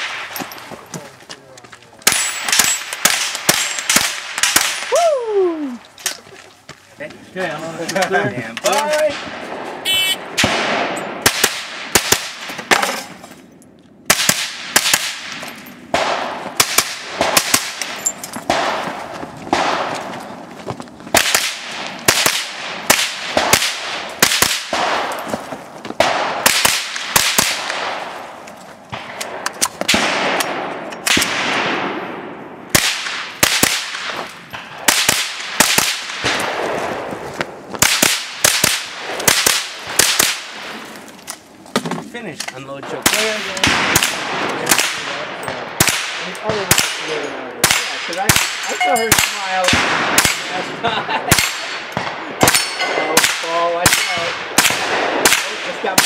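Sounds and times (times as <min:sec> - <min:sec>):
rifle shots with echo: 0:00.0 - 0:00.7, 0:02.0 - 0:04.9, 0:08.8 - 0:13.2, 0:14.0 - 0:20.5, 0:21.1 - 0:41.0, 0:42.8 - 0:56.0.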